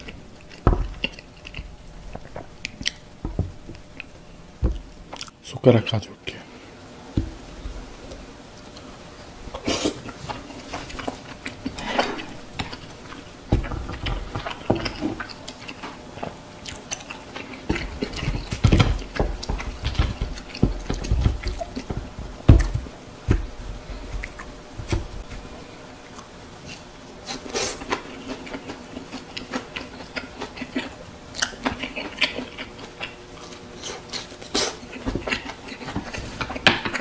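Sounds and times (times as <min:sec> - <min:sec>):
close chewing and biting: 0:00.0 - 0:03.1, 0:09.6 - 0:37.0.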